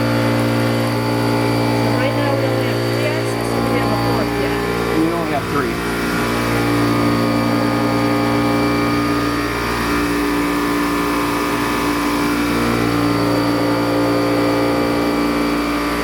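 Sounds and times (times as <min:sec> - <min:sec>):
low hum: 0:00.0 - 0:16.0
milling machine whine: 0:00.0 - 0:16.0.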